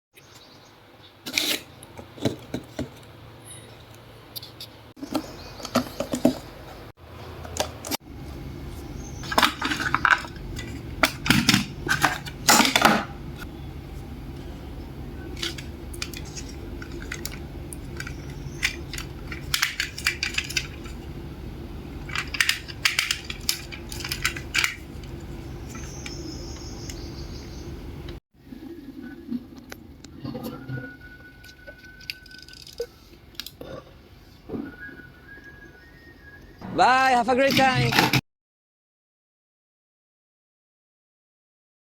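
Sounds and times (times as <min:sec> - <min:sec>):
steady low hum: 0:02.5 - 0:37.3.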